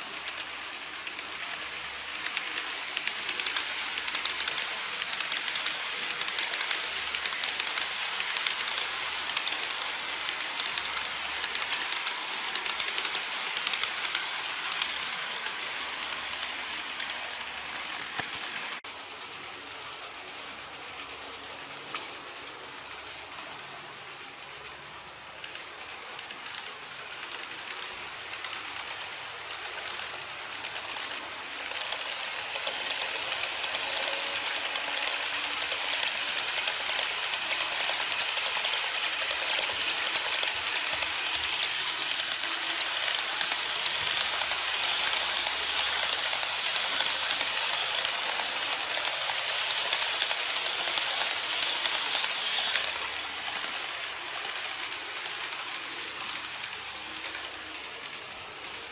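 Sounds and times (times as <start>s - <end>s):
model train wheels clicking: 0.0s - 58.9s.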